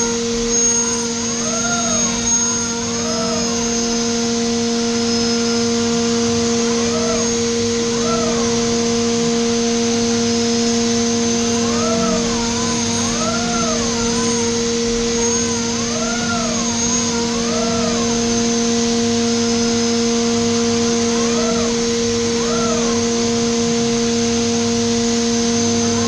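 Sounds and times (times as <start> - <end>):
spindle high whine: 0.0 - 26.0.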